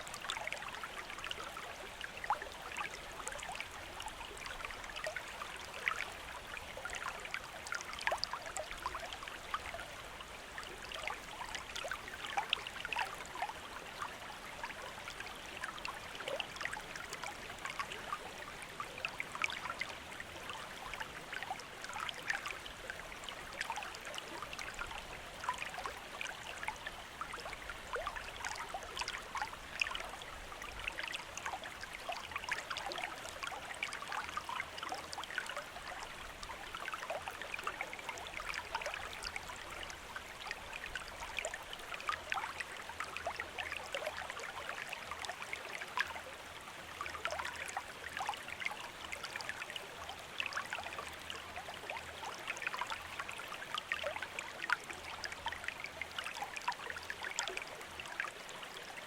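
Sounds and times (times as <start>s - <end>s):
stream burbling and trickling: 0.0s - 59.0s.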